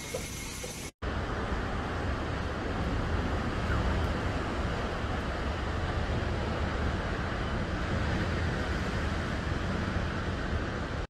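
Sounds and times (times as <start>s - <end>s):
wind rumbling on microphone: 1.0s - 11.0s.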